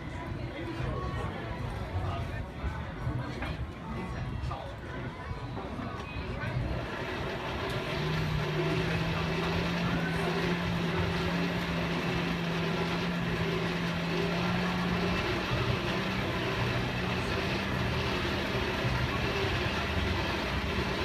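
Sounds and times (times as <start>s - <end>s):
busy background noise: 0.0s - 21.0s
low mechanical hum: 0.0s - 21.0s.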